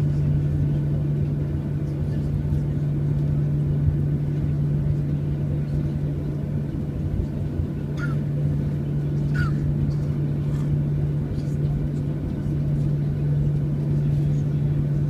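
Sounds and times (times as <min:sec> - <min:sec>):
airliner engines humming: 0:00.0 - 0:15.0.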